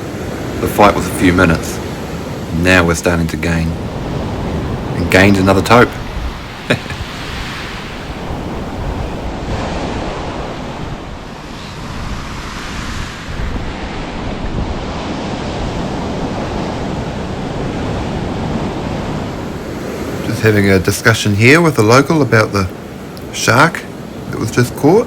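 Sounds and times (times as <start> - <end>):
wind buffeting microphone: 0.0 - 21.5
surf washing onto beach: 0.0 - 25.0.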